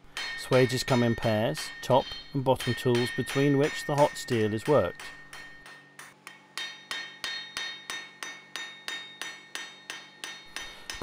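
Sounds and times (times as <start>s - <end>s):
hammer ringing on anvil: 0.0s - 11.0s.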